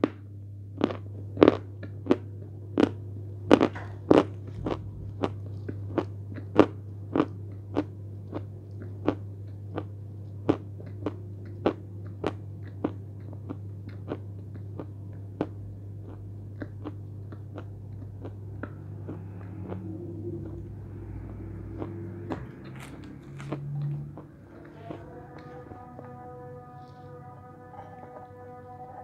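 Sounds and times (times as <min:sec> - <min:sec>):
steady low hum: 0:00.0 - 0:29.0
chewing chalk crunches: 0:00.8 - 0:20.6, 0:21.2 - 0:26.1.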